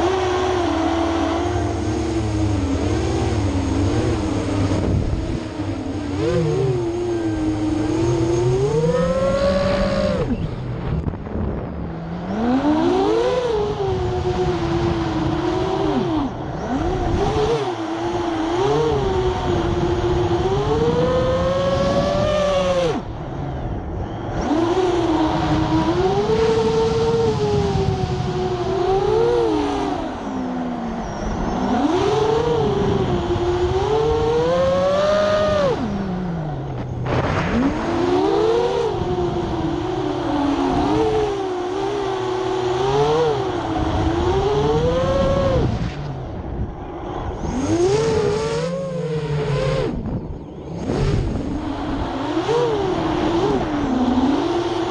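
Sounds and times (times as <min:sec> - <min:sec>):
drone motors buzzing whine: 0:00.0 - 0:54.9.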